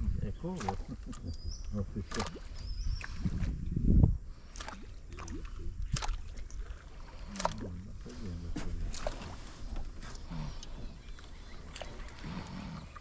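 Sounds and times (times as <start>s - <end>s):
low water rush: 0.0s - 13.0s
water lapping against boat hull: 0.0s - 13.0s.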